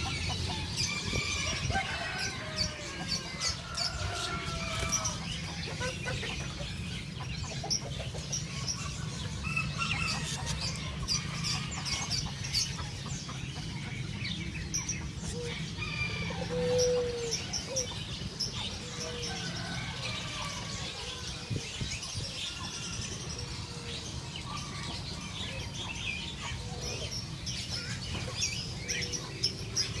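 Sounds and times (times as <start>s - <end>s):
chickens clucking: 0.0s - 30.0s
songbirds chirping and twittering: 0.0s - 30.0s.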